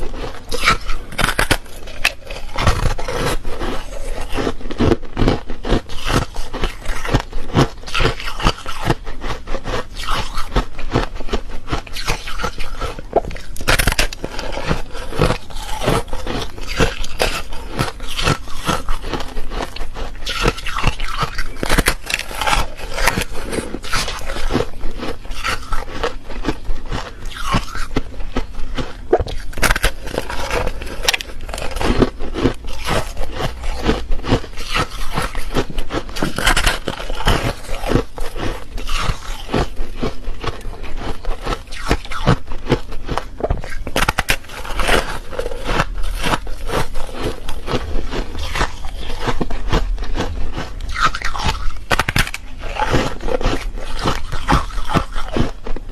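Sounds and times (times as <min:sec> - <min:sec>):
chewing crunchy ice: 0:00.0 - 0:55.9.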